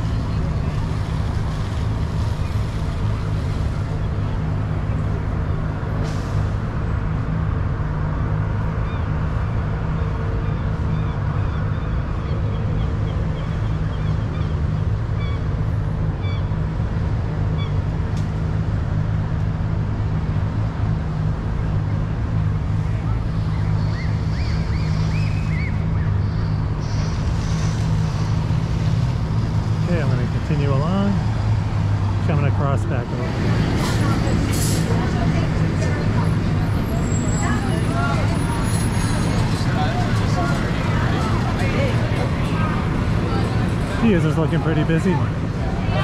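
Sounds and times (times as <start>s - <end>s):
city traffic rumble: 0.0s - 46.0s.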